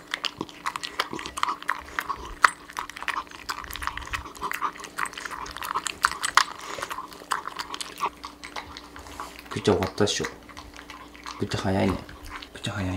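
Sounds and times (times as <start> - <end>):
dog crunching dry kibble: 0.0 - 12.9.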